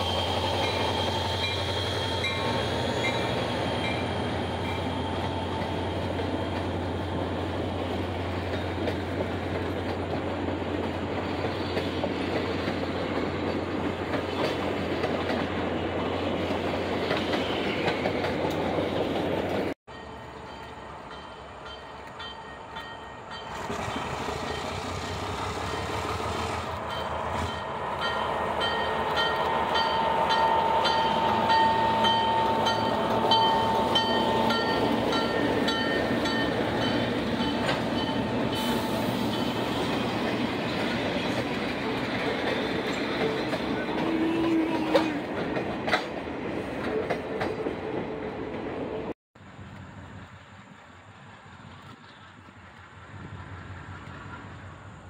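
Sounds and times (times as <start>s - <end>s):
train wheels clicking on rails: 0.0s - 54.7s.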